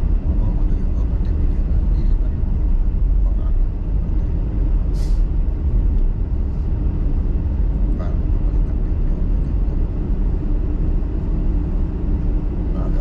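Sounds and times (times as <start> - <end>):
low rumble of car driving: 0.0 - 13.0.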